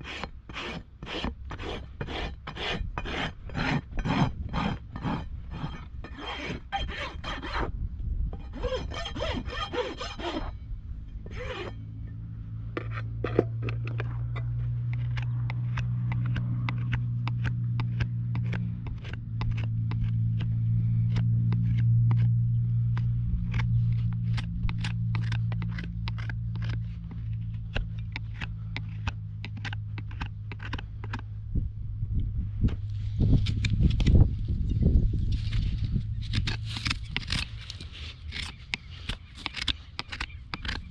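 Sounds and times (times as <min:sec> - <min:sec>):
hoof knife paring: 0:00.0 - 0:07.7, 0:08.3 - 0:31.6, 0:32.6 - 0:40.9
rasp scraping hoof: 0:00.0 - 0:07.7, 0:08.4 - 0:31.4, 0:32.6 - 0:40.9
steady low hum: 0:00.0 - 0:40.9.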